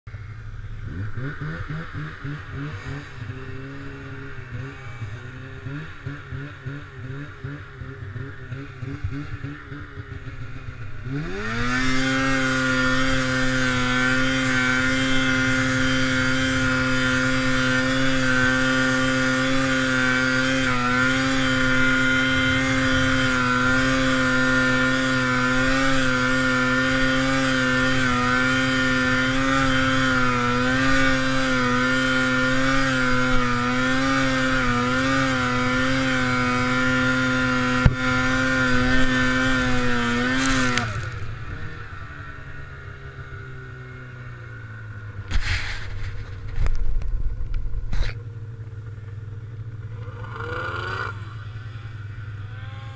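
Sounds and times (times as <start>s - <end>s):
snowmobile engine revving: 0.1s - 52.9s.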